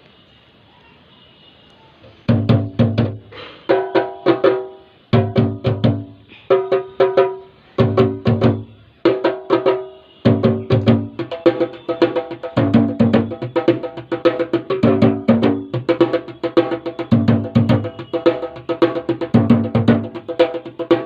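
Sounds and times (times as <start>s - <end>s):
pitched percussion in fast rhythm: 2.2s - 21.0s.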